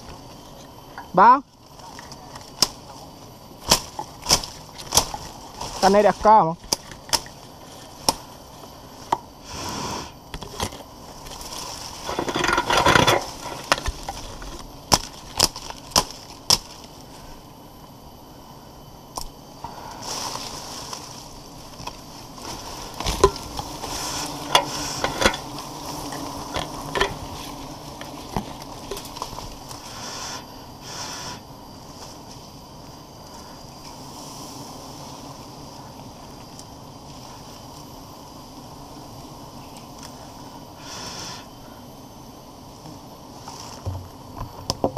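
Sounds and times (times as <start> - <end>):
leaves and branches rustling: 0.0 - 44.8.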